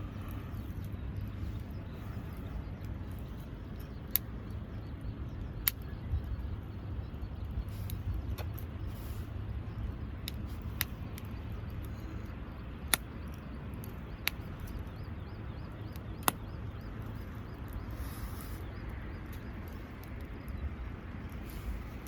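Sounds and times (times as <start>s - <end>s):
campfire crackling: 0.0s - 22.0s
low rumble: 0.0s - 22.0s.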